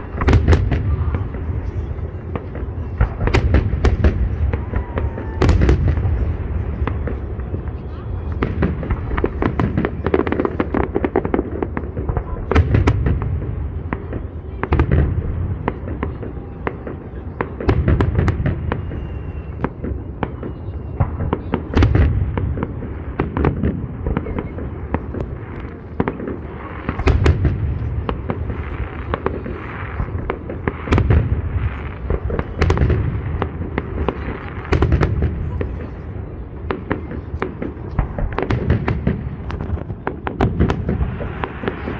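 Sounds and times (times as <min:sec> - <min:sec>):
firework shells booming: 0:00.0 - 0:41.9
fireworks cracking and crackling: 0:00.0 - 0:41.9.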